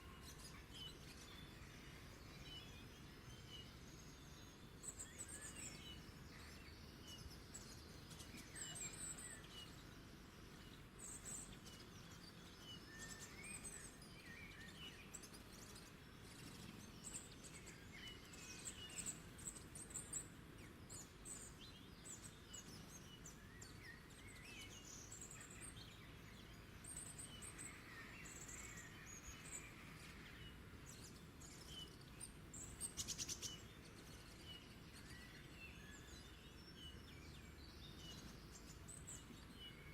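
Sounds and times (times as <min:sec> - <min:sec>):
low steady background hum: 0:00.0 - 0:39.9
songbirds chirping: 0:00.0 - 0:39.9.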